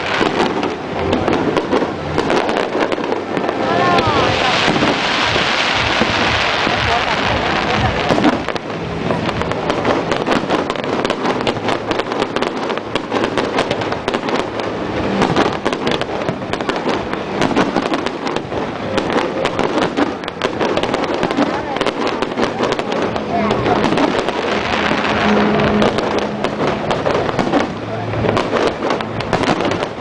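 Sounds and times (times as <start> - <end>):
fireworks crackling and banging: 0.0 - 30.0.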